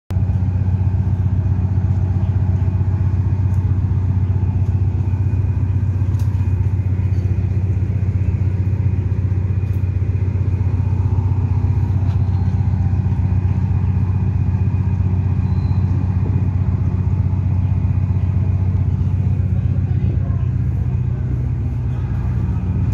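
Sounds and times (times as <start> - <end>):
boat engine idling: 0.1 - 22.9.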